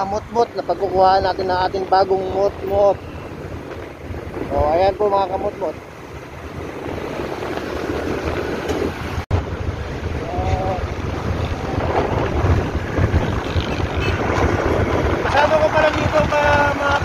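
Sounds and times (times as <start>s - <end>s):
motorcycle engine and road rumble: 0.0s - 17.0s
wind rushing over microphone: 0.0s - 17.0s.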